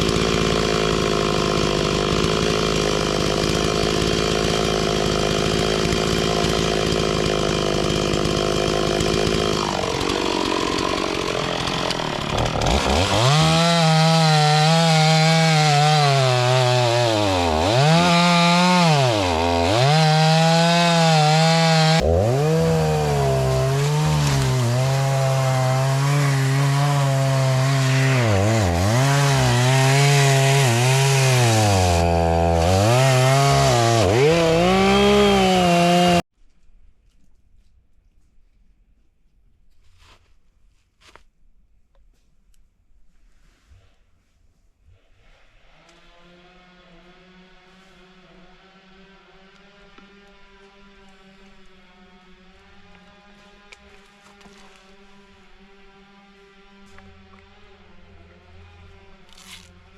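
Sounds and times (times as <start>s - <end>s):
chainsaw cutting wood: 0.0s - 36.3s, 45.4s - 59.9s.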